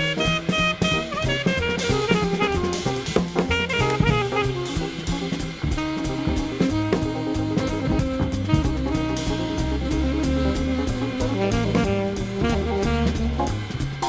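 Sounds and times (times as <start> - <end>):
drum kit steady beat: 0.0 - 14.0
saxophone melody: 0.0 - 14.0.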